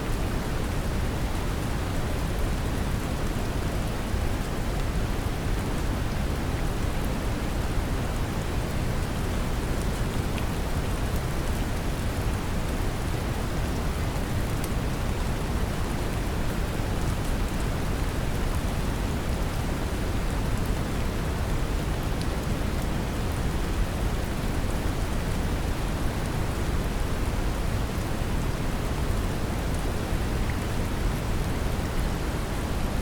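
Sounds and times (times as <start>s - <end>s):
brown noise hiss: 0.0s - 33.0s
gentle rain patter: 0.0s - 33.0s.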